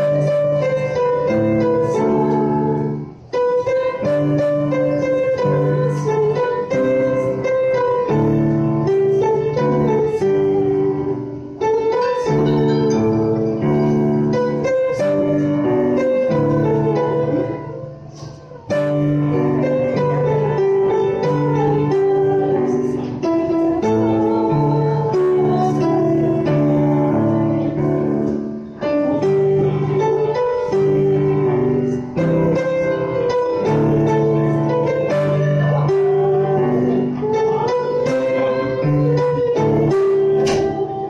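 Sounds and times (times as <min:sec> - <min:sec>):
hymn chords on keyboard: 0:00.0 - 0:41.0.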